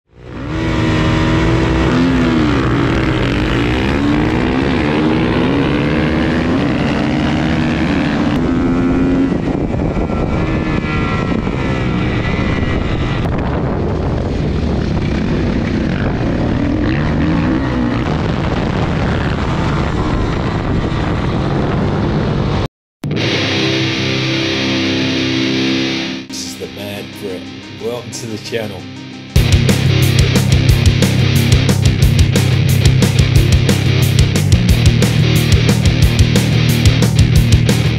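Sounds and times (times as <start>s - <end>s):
motorcycle engine accelerating: 0.1s - 26.3s, 28.9s - 37.9s.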